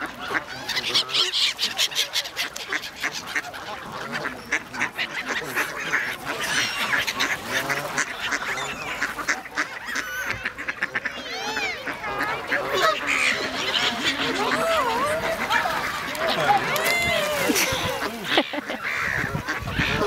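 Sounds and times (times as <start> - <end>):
ducks quacking: 0.0 - 20.0
geese honking: 0.0 - 20.0.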